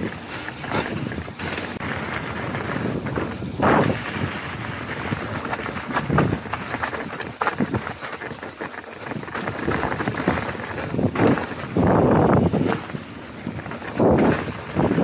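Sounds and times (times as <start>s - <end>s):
mountain bike rattling over rocks: 0.0s - 15.0s
wind on microphone: 0.0s - 15.0s.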